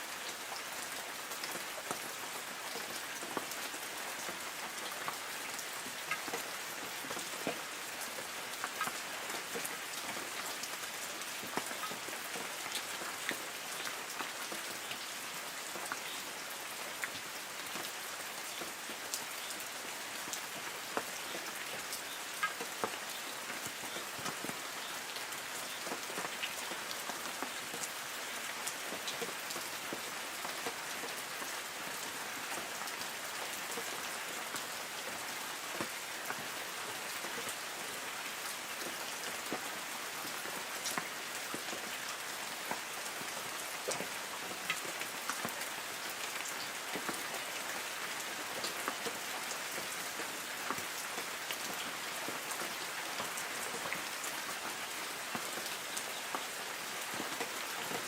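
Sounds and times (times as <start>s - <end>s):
raindrops pattering on leaves: 0.0s - 58.0s.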